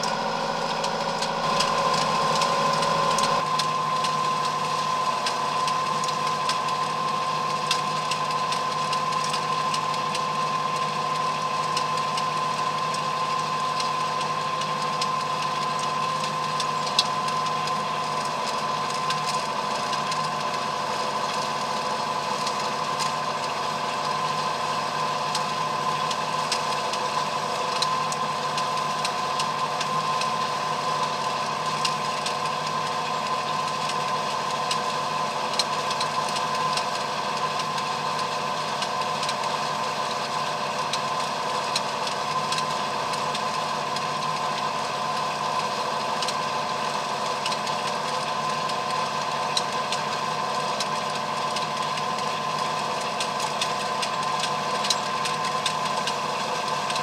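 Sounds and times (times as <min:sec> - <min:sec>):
rotary rake whine: 0:00.0 - 0:57.0
tractor diesel engine running: 0:00.0 - 0:57.0.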